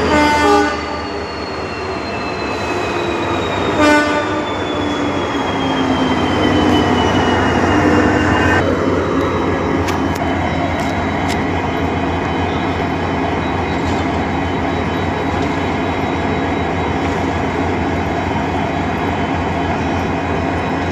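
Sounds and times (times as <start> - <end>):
locomotive engine humming: 0.0 - 20.9.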